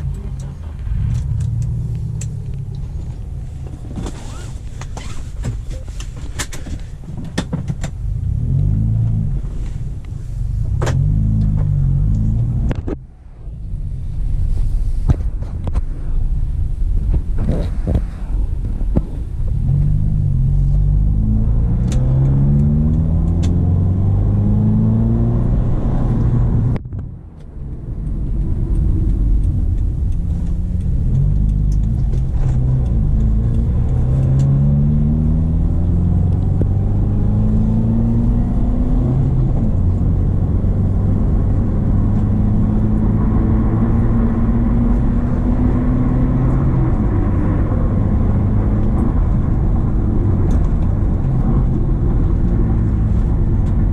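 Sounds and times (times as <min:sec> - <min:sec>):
car engine revving uphill: 0:00.0 - 0:53.9.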